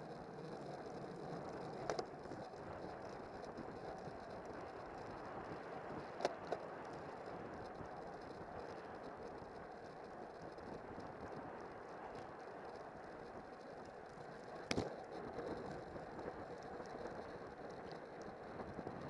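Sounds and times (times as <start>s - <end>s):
bicycle tyre noise: 0.0s - 19.0s.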